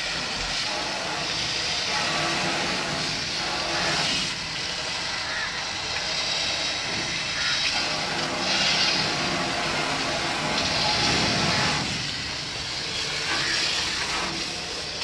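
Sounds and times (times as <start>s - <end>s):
hose jet spraying water: 0.0s - 15.0s.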